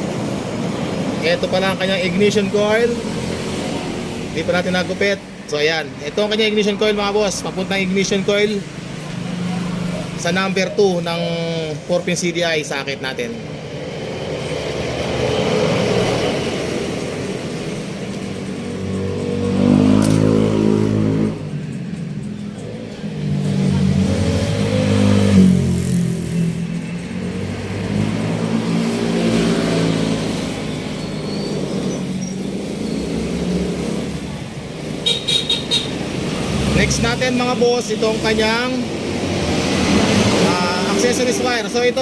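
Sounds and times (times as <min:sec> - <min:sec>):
vehicle engines revving: 0:00.0 - 0:42.0.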